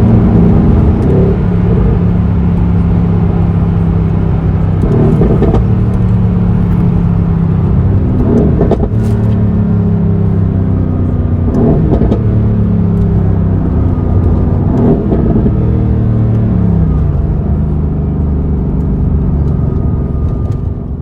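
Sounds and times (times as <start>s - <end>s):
car engine and exhaust running: 0.0s - 21.0s
engine revving: 0.0s - 21.0s.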